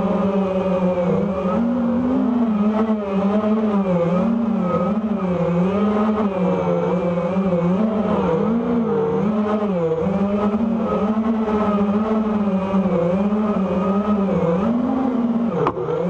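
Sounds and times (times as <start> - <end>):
quadcopter motors buzzing: 0.0 - 16.0.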